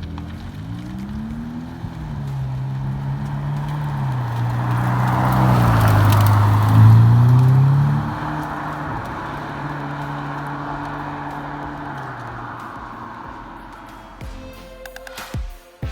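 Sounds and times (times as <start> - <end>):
sports car driving by slowly: 0.0 - 14.6.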